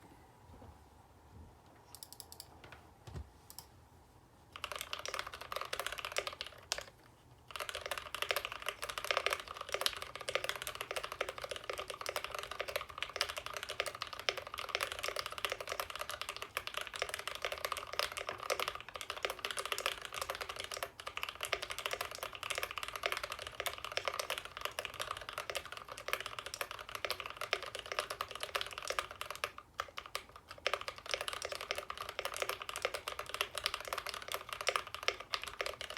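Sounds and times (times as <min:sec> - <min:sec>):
typing on mechanical keyboard: 0:01.9 - 0:02.5, 0:04.5 - 0:35.9.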